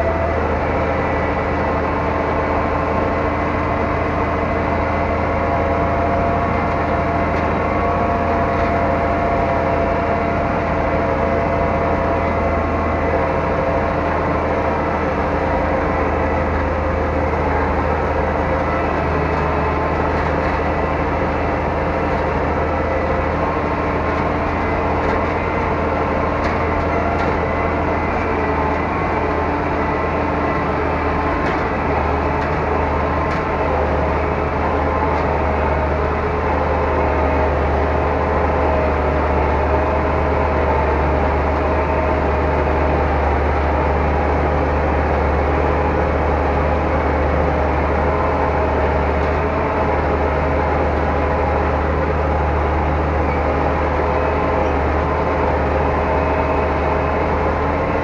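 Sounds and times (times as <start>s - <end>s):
tractor diesel engine droning: 0.0s - 58.0s.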